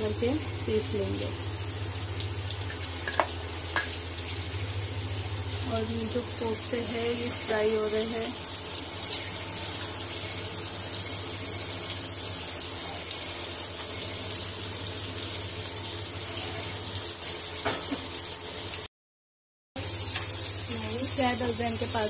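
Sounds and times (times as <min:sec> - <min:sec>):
meat sizzling in hot oil: 0:00.0 - 0:18.9, 0:19.8 - 0:22.0.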